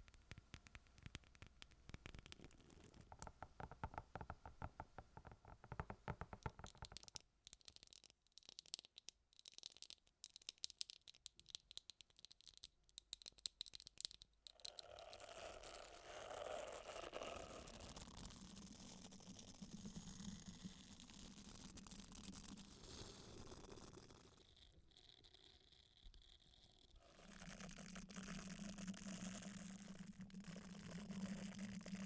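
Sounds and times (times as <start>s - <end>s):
small clicks and scratches: 0.0s - 32.0s.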